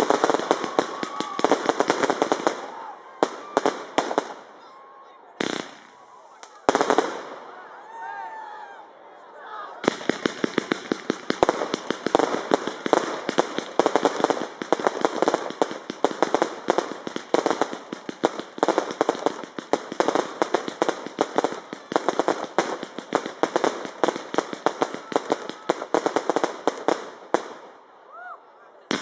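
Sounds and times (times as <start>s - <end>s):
fireworks bangs and crackles: 0.0s - 4.6s, 5.4s - 8.1s, 9.8s - 28.0s.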